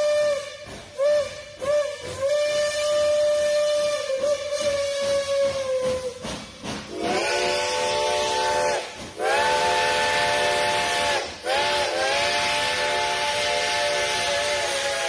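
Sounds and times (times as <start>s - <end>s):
chime steam whistle blasts: 0.0s - 15.0s
steam hissing: 0.0s - 15.0s.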